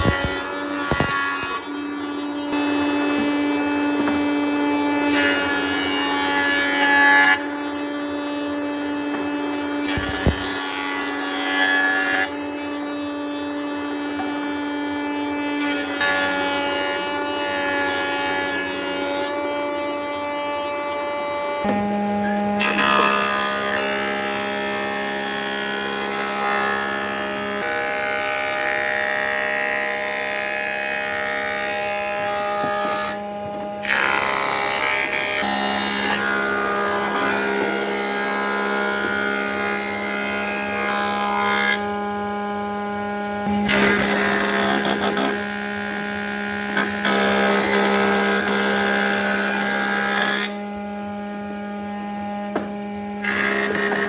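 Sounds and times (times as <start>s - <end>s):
power tool working wood: 0.0s - 54.0s.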